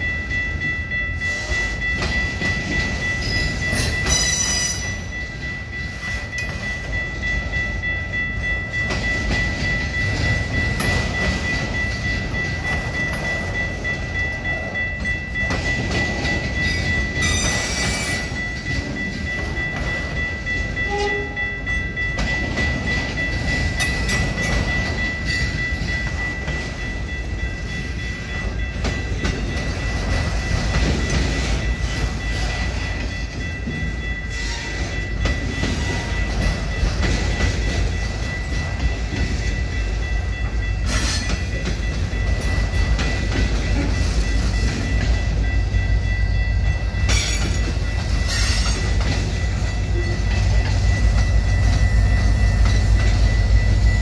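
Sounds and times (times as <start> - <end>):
steady high-pitched tone: 0.0 - 54.0
wheels rumbling and clacking on rails: 0.0 - 54.0.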